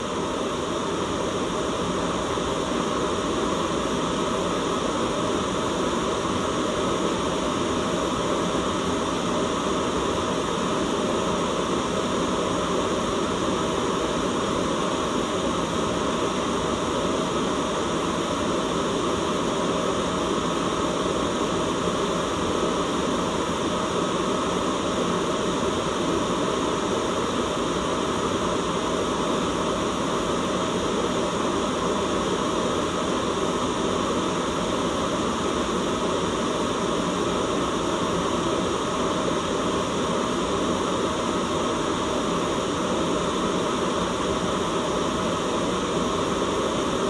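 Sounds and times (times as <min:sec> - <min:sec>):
steady white noise: 0:00.0 - 0:47.0.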